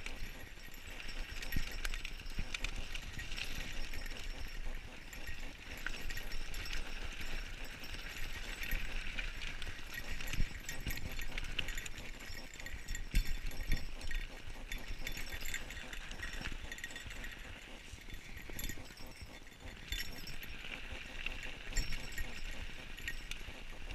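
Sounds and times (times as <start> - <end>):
bike chain clicking: 0.0 - 23.9
mountain bike rattling on dirt trail: 0.0 - 23.9.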